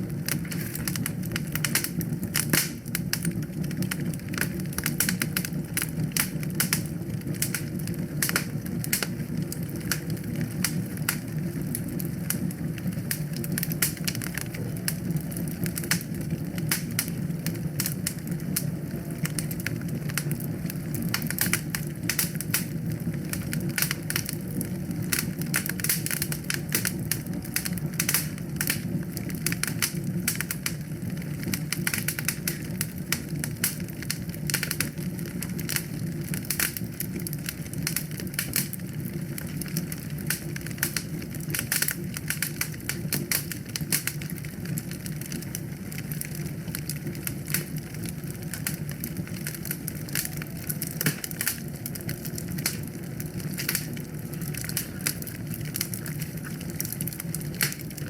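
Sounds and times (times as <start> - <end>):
low roar of flames: 0.0 - 58.0
wood fire crackling and popping: 0.0 - 58.0.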